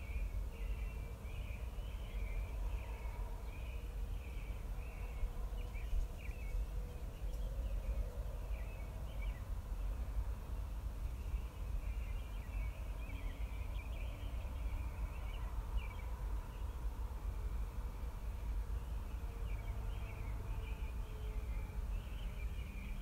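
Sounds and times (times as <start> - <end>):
small birds chirping: 0.0 - 17.0, 18.2 - 23.0.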